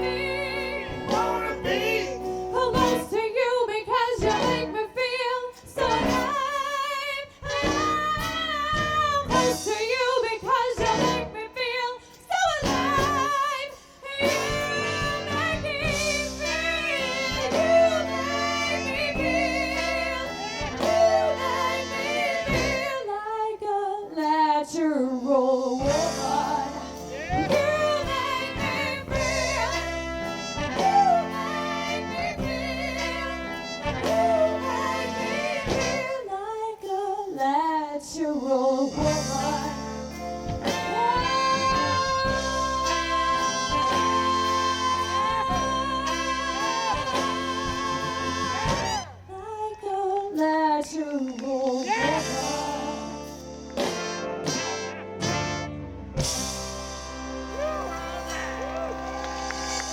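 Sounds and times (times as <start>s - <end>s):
woman singing with vibrato: 0.0s - 53.3s
soul band playing: 0.0s - 59.9s.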